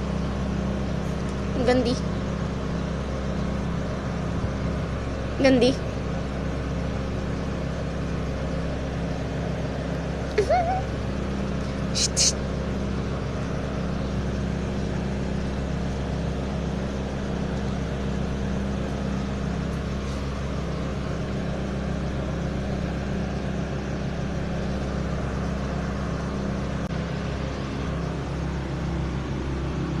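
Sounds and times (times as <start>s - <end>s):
engine-like drone: 0.0s - 30.0s.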